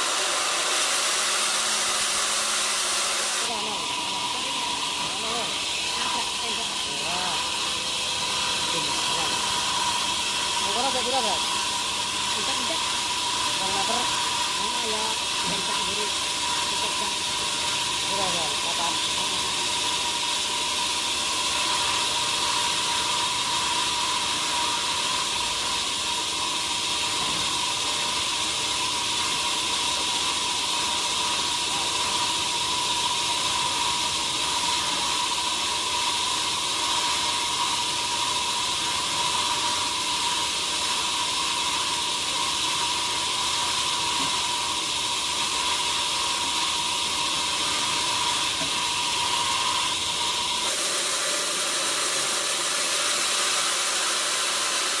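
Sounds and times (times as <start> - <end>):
machine hiss with high whine: 0.0 - 55.0.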